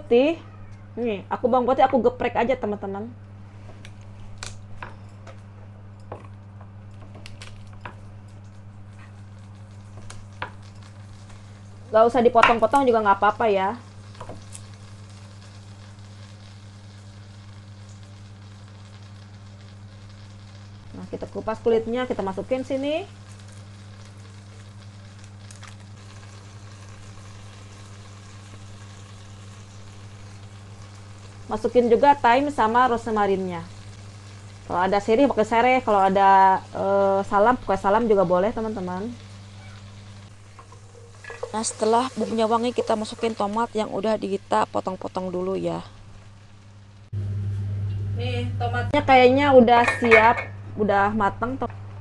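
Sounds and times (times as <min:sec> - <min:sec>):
steady low hum: 0:00.0 - 0:52.0
garlic sizzling in butter: 0:03.8 - 0:50.6.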